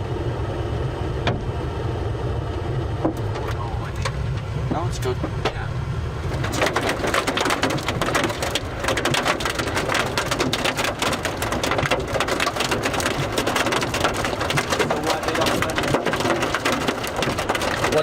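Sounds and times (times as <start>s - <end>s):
heavy rain on a vehicle: 2.2s - 18.0s.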